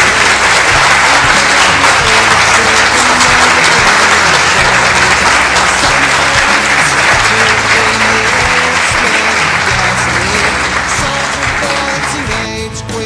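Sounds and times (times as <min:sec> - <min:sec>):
bass line: 0:00.0 - 0:13.0
guitar: 0:00.0 - 0:13.0.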